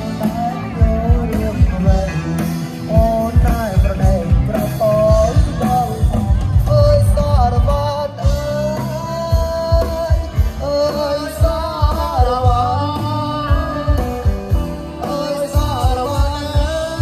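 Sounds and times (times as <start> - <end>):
amplified band music: 0.0 - 17.0
drum beat: 0.0 - 17.0
person singing: 0.0 - 17.0.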